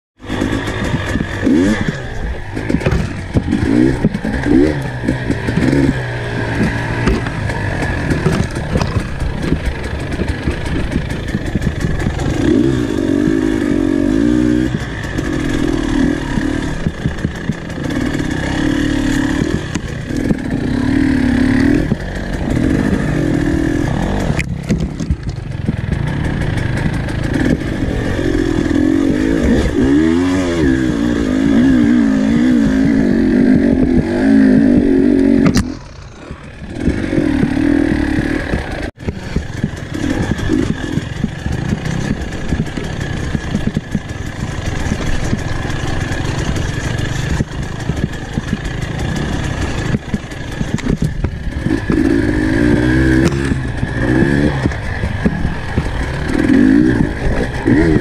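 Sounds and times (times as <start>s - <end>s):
dirt bike engine revving: 0.2s - 58.0s.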